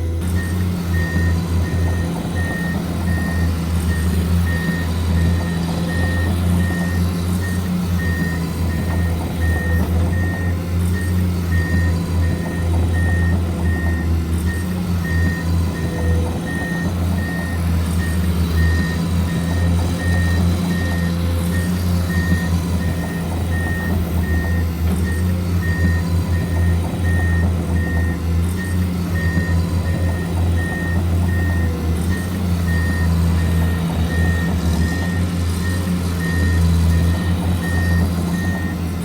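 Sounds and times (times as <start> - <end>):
low diesel engine hum: 0.0 - 39.0
reversing beeper: 0.2 - 39.0.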